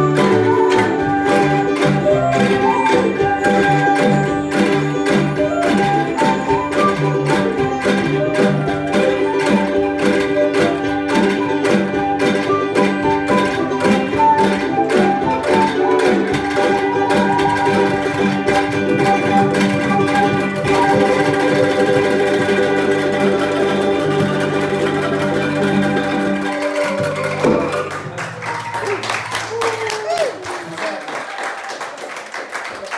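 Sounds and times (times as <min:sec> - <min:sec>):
angklung ensemble playing: 0:00.0 - 0:29.5.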